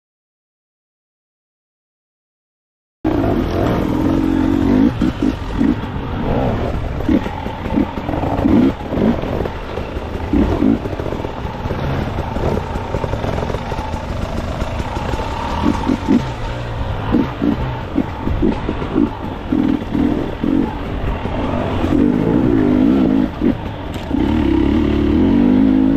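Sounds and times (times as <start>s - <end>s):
dirt bike engine revving: 3.1s - 25.9s.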